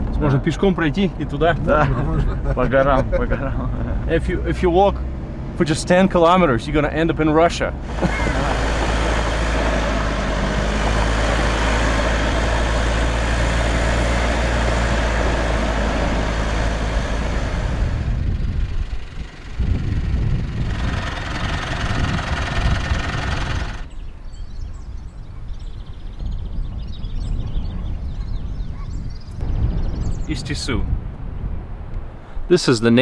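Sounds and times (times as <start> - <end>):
truck engine and road noise: 0.0 - 33.0.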